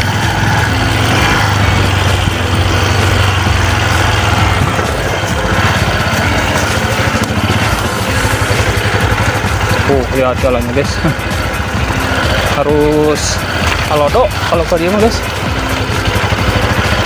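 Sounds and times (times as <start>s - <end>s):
small motorcycle engine running: 0.0s - 17.0s
wind and road noise: 0.0s - 17.0s.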